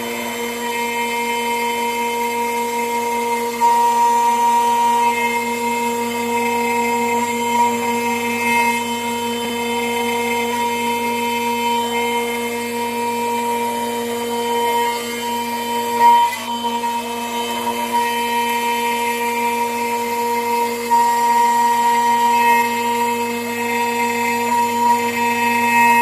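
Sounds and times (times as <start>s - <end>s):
end mill cutting metal: 0.0s - 26.0s
router spindle whine: 0.0s - 26.0s.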